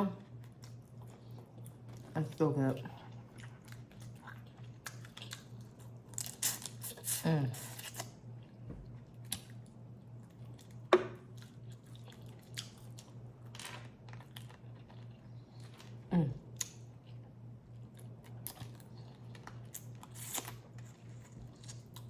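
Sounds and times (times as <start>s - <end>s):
chewing and crunching: 0.0s - 22.0s
steady low hum: 0.0s - 22.0s.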